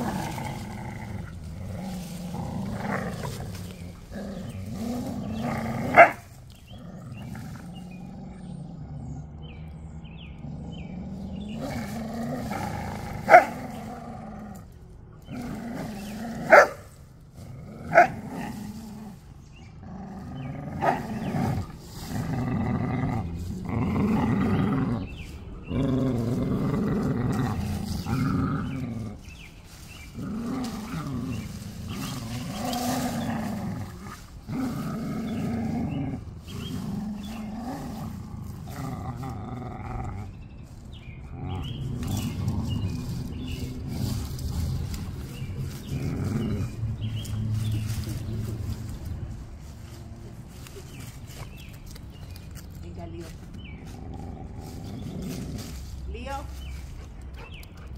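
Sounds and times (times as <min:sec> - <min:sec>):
dogs growling in play: 0:00.0 - 0:57.9.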